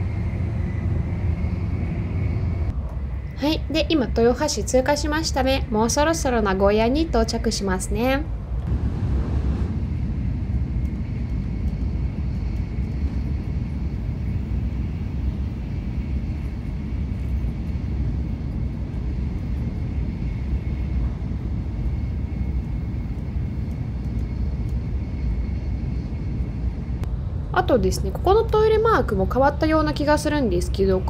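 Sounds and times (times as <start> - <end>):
faint high whine: 0.0 - 31.0
train cabin low rumble: 0.0 - 31.0.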